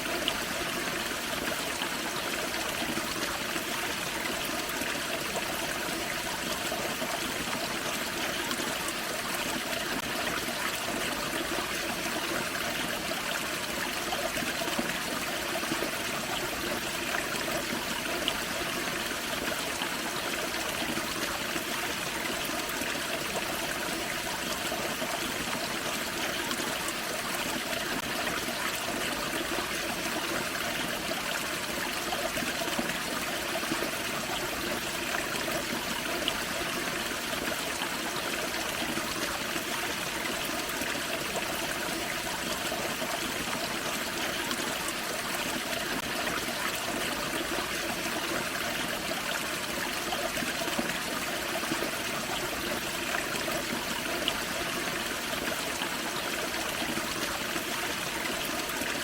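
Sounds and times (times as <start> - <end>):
creek pouring over waterfall: 0.0 - 59.0.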